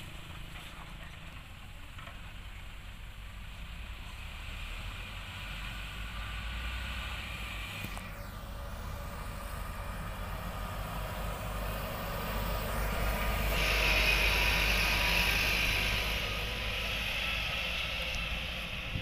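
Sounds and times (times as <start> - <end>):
truck diesel engine driving past: 0.0 - 19.0.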